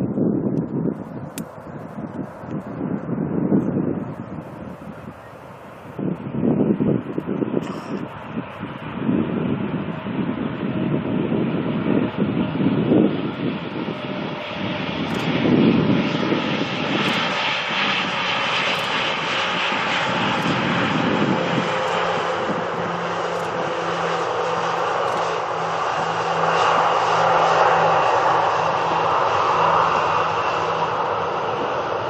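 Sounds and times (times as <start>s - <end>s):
jet airliner engine noise: 0.0s - 32.0s.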